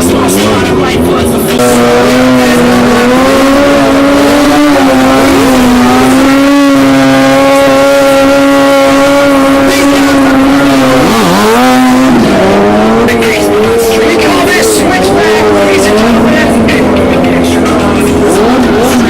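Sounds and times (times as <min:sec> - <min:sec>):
motorcycle engine revving high: 0:00.0 - 0:19.0
other motorcycle engines: 0:00.0 - 0:19.0.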